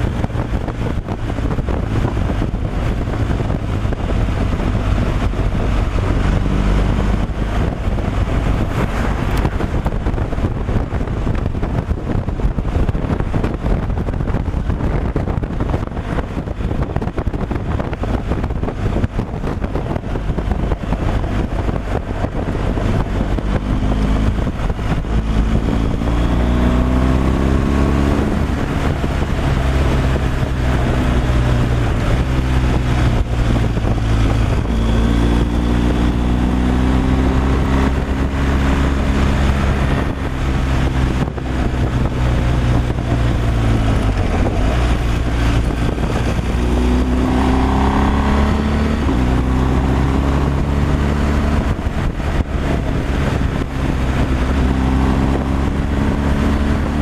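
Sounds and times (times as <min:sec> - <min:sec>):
road noise rumble: 0:00.0 - 0:57.0.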